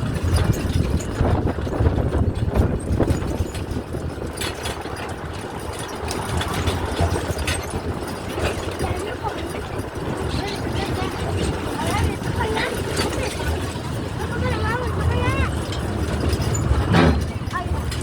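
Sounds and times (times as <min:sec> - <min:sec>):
miniature train rumbling on track: 0:00.0 - 0:18.0
track clacks: 0:00.0 - 0:18.0.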